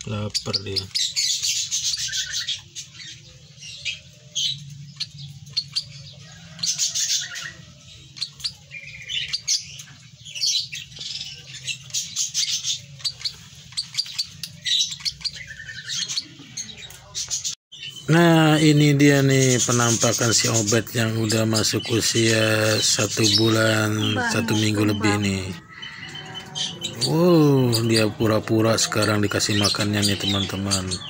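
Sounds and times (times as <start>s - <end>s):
bird chick begging chirps: 0.1s - 31.0s.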